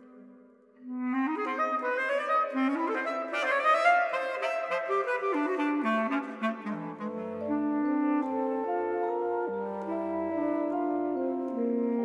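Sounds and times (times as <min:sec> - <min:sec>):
bass clarinet playing fast run: 0:01.0 - 0:12.0.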